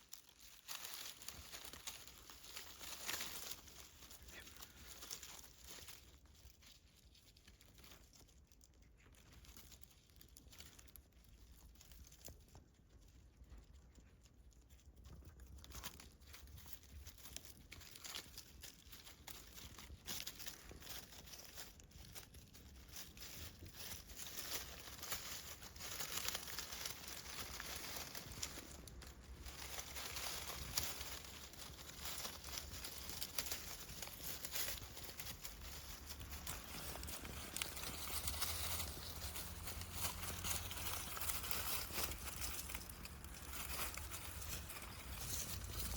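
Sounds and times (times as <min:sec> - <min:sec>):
rustling and crinkling: 0:00.0 - 0:45.9.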